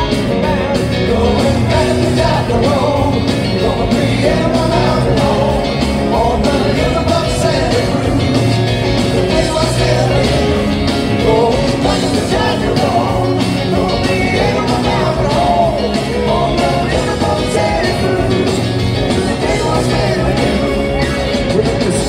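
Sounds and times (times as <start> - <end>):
bass: 0.0 - 22.0
drums: 0.0 - 22.0
electric guitars: 0.0 - 22.0
keyboards: 0.0 - 22.0
person singing: 0.0 - 22.0.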